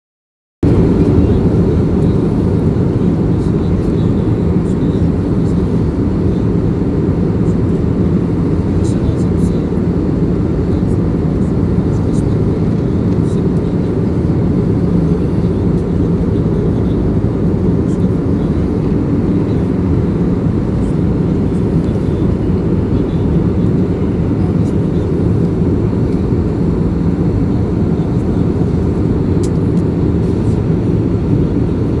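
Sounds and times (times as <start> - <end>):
airliner engine roar: 0.6 - 32.0.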